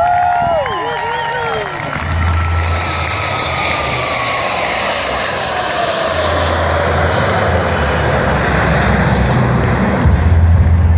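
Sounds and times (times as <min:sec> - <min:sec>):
jet engines flying past: 0:00.0 - 0:10.9.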